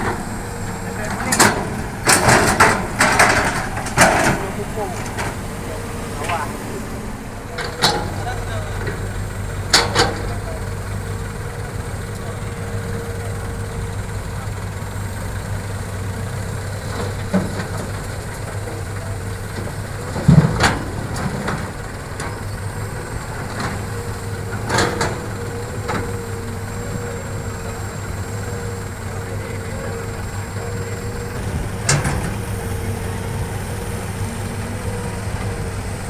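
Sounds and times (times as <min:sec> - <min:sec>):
dump truck idling: 0:00.0 - 0:36.0
excavator diesel engine: 0:00.0 - 0:36.0.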